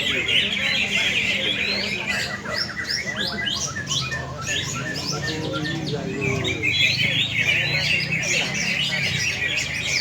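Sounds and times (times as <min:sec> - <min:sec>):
birds singing chirps and whistles: 0:00.0 - 0:10.0.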